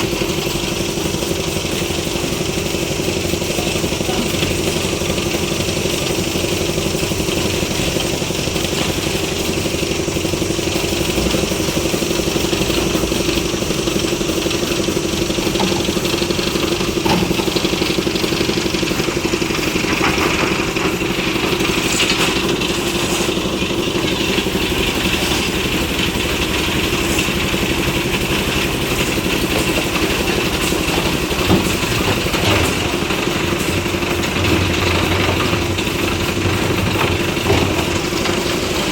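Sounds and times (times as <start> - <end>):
machine engine running steadily: 0.0 - 38.9.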